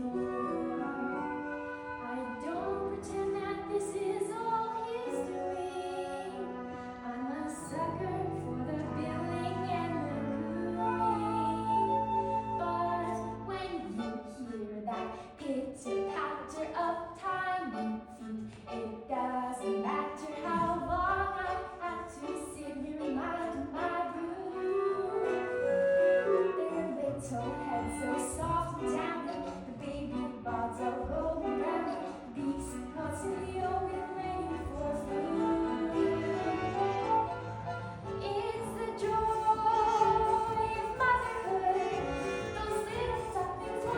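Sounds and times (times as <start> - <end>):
girl singing: 0.0 - 36.2, 38.2 - 43.9
instrumental accompaniment: 0.0 - 43.9.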